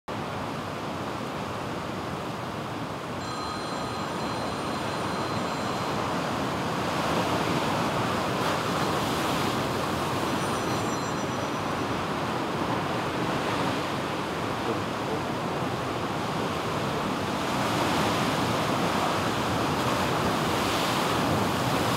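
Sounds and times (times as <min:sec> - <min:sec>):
heavy surf breaking on rocks: 0:03.2 - 0:21.9.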